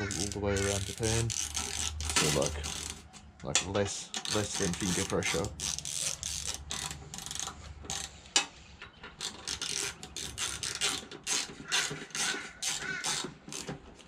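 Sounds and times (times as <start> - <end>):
hand ratchet clicking: 0.0 - 3.0, 4.1 - 8.2, 9.2 - 13.8.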